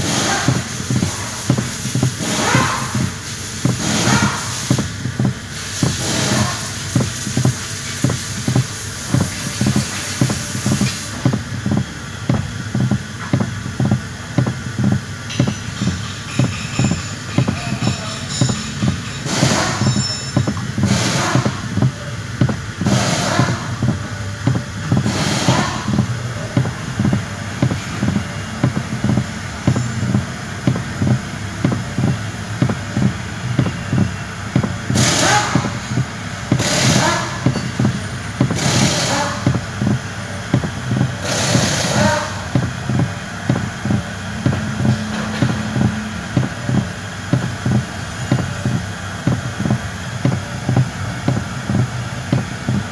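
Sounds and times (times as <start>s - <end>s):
steady low hum: 0.0s - 52.9s
steering column creaking: 0.0s - 52.9s.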